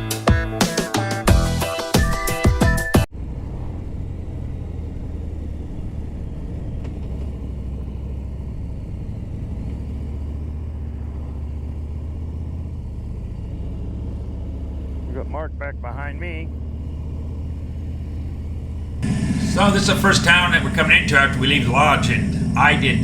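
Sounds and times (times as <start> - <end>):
motorcycle engine drone: 1.2 - 23.0
road and wind noise: 3.0 - 23.0.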